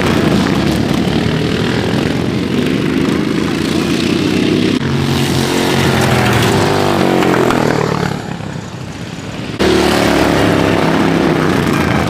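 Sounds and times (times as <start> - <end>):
racing lawnmower engines: 0.0 - 12.0.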